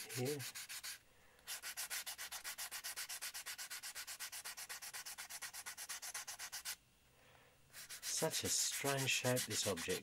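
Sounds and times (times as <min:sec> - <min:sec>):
sandpaper sanding wood: 0:00.0 - 0:06.8, 0:07.7 - 0:10.0.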